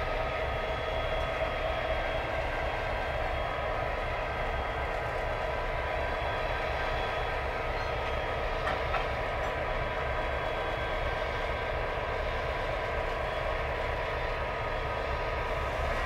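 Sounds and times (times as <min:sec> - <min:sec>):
diesel locomotive idling rumble: 0:00.0 - 0:16.0.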